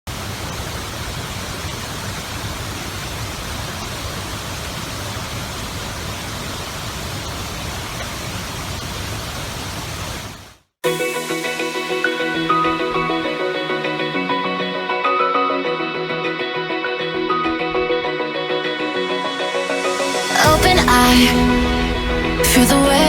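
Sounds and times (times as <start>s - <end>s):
waterfall rushing: 0.1s - 23.0s.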